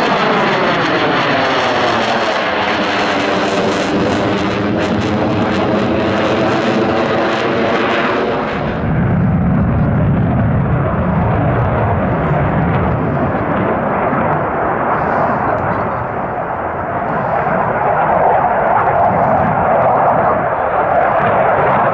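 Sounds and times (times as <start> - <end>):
jet engine roaring: 0.0 - 21.9.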